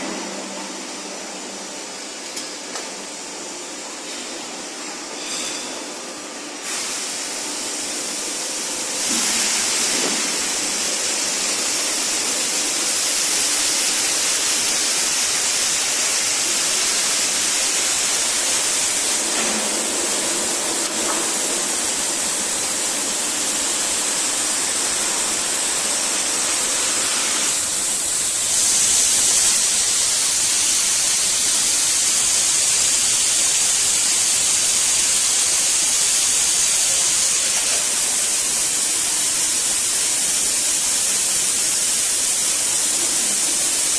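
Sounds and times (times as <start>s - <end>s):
die casting machine hissing: 5.0s - 43.9s.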